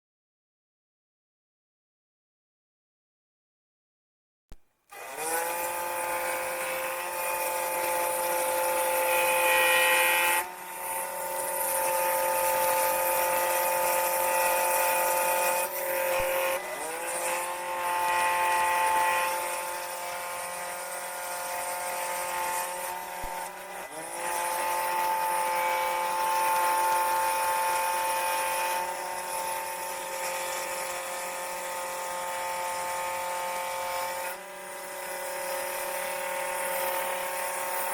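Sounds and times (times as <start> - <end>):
scroll saw cutting wood: 4.5 - 37.9.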